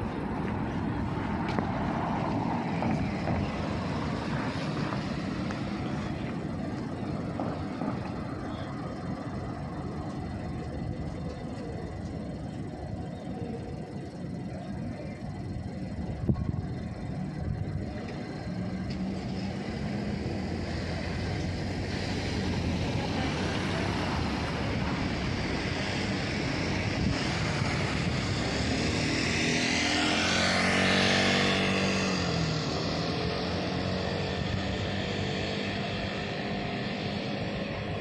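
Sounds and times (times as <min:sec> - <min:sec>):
cars driving past: 0:00.0 - 0:38.0.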